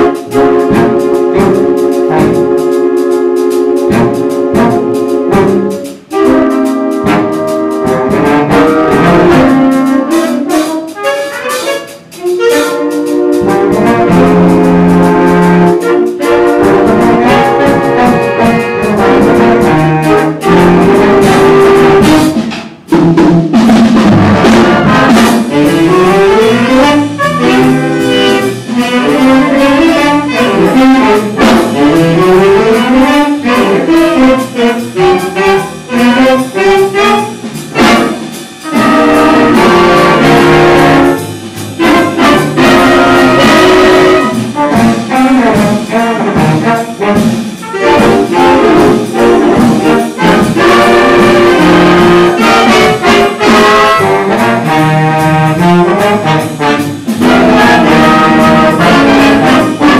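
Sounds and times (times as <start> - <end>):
jazz brass section playing: 0.0 - 59.9.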